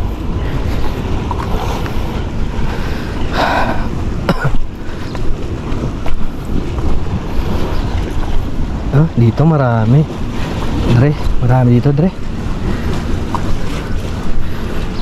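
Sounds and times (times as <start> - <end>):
sea waves washing against rock: 0.0 - 15.0
wind buffeting microphone: 0.0 - 15.0.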